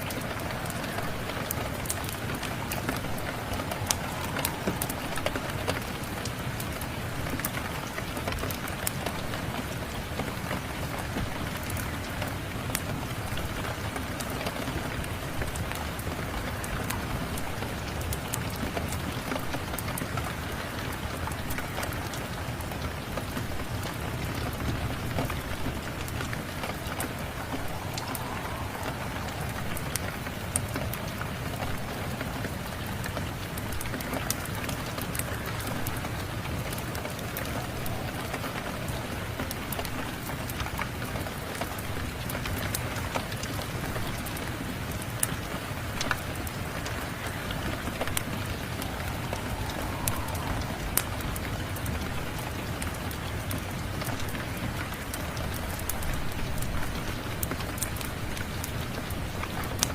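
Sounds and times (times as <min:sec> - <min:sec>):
fire crackling and popping: 0:00.0 - 0:59.9
steady rain: 0:00.0 - 0:59.9.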